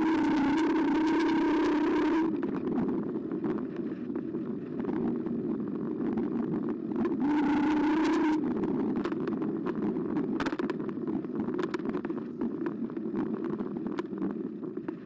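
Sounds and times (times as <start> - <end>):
tyre and road rumble: 0.0 - 15.0.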